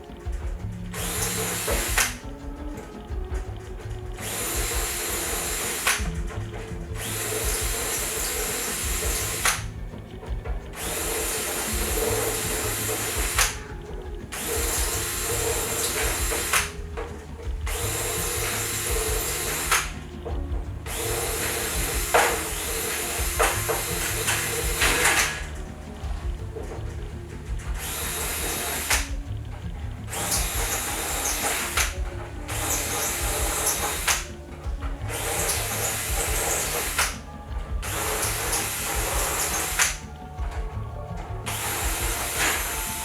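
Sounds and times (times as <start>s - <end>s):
power drill running: 0.0s - 43.0s.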